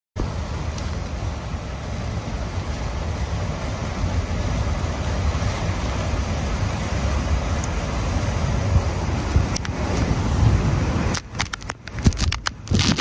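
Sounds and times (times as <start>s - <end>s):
strong wind blowing: 0.2s - 13.0s
wind buffeting microphone: 0.2s - 13.0s.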